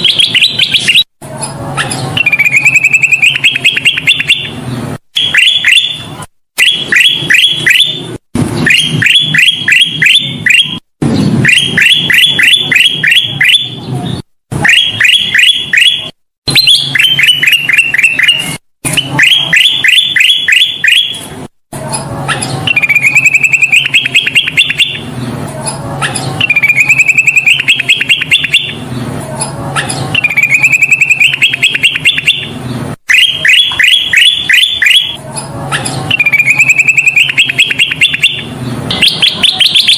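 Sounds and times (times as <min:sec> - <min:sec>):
bird chattering song: 0:00.0 - 0:01.1, 0:01.8 - 0:21.3, 0:22.3 - 0:39.9
bird notes climbing in pitch: 0:00.0 - 0:21.4, 0:22.0 - 0:28.8, 0:29.5 - 0:39.9.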